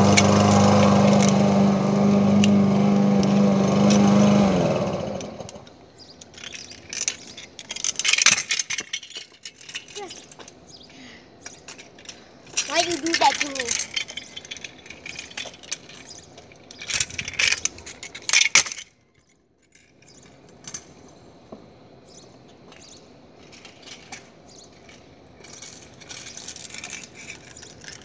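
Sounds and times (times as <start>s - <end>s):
scooter wheels rolling on pavement: 0.0s - 28.0s.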